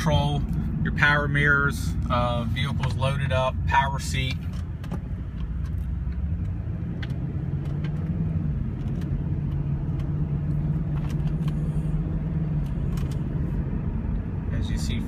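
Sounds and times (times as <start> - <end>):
car engine drone inside cabin: 0.0 - 15.0
road noise: 0.0 - 15.0.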